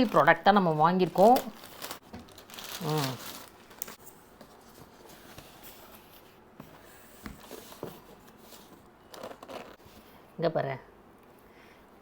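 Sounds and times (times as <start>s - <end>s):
quiet room noise: 0.0s - 12.0s.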